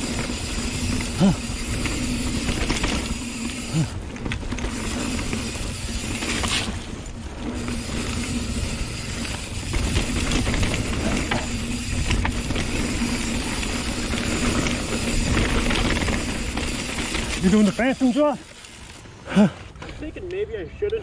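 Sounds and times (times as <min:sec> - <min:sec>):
freehub ratcheting buzz: 0:00.0 - 0:19.1
tyres rumbling over dirt: 0:00.0 - 0:20.2.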